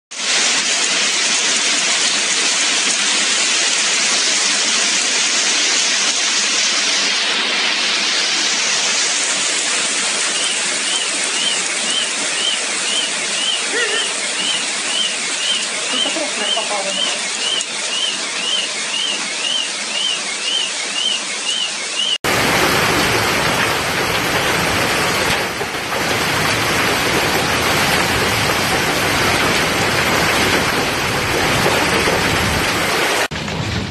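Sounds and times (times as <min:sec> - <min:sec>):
hail and heavy rain pelting: 0:00.1 - 0:18.0, 0:22.2 - 0:33.9.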